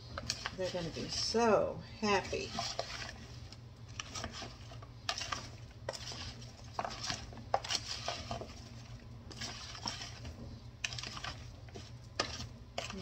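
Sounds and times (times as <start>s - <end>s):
spoon scraping plastic bowl: 0.2s - 1.4s, 2.1s - 13.0s
vegetable pieces shuffling: 0.3s - 1.4s, 2.0s - 13.0s.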